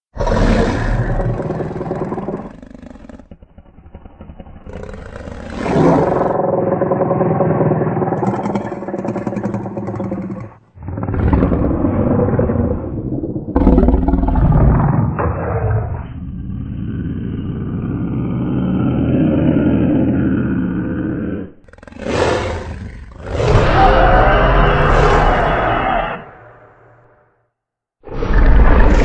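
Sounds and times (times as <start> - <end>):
creature growls and roars: 0.1 - 27.3, 28.0 - 29.0.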